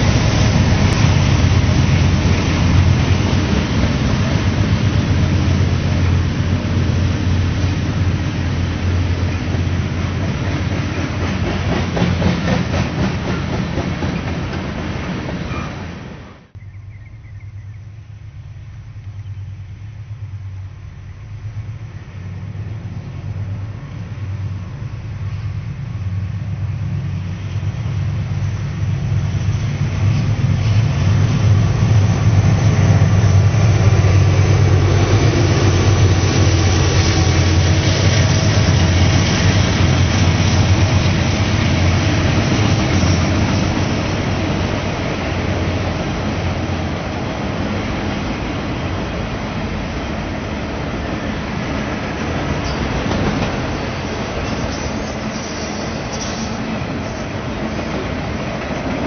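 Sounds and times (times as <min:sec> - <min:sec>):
diesel locomotive engine drone: 0:00.0 - 0:59.0
train cars rumbling on rails: 0:00.0 - 0:59.0.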